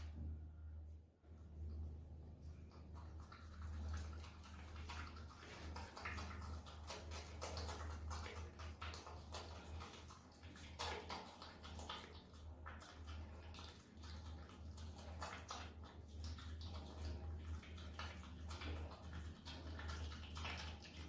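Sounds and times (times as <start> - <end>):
low steady hum: 0.0 - 21.0
animal chewing wetly: 1.8 - 21.0.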